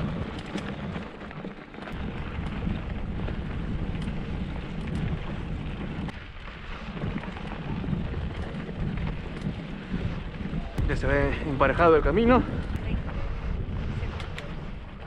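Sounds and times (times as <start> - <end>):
bike clicks and rattles: 0.0 - 15.0
bike tyres crunching on dirt: 0.0 - 15.0
wind buffeting microphone: 0.0 - 15.0.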